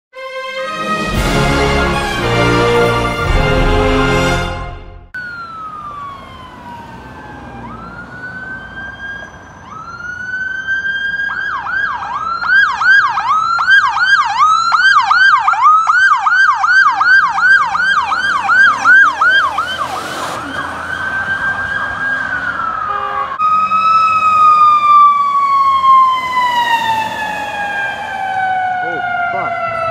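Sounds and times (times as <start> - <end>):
emergency siren wailing and yelping: 5.1 - 29.9.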